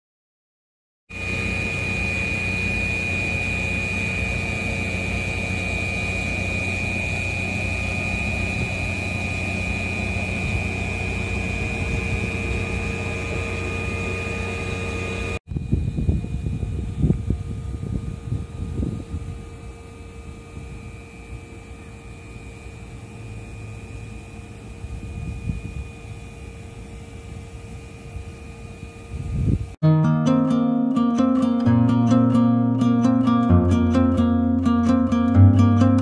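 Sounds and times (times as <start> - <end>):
electric train hum and whine: 1.1 - 36.0.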